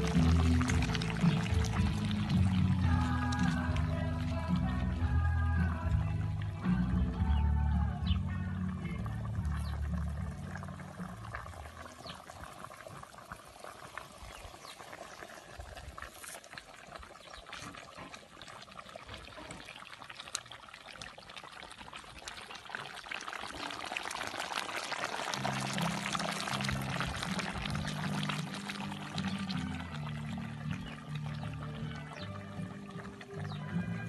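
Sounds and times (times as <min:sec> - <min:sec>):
wood fire popping: 0:00.0 - 0:04.7, 0:09.1 - 0:33.7
water boiling in a pot: 0:00.0 - 0:34.0.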